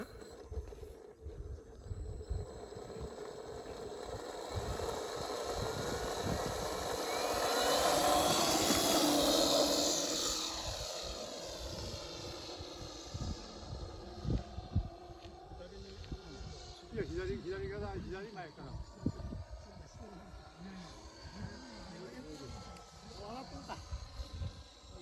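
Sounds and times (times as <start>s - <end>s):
model plane motor and propeller: 0.0s - 25.0s.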